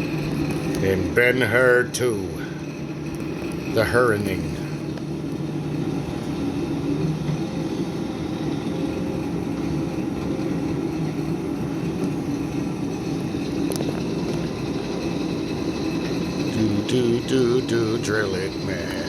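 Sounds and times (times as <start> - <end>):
drill press motor hum: 0.0 - 19.0.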